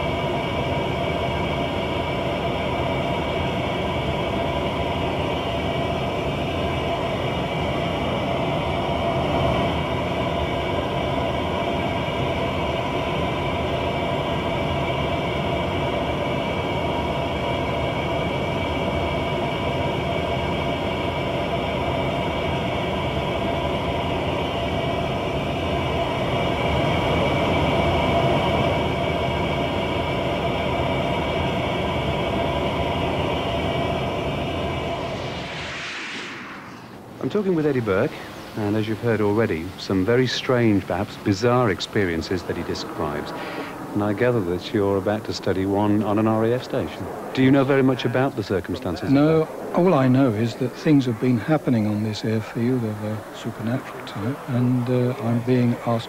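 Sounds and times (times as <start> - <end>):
jet engine whine and rumble: 0.0 - 56.0.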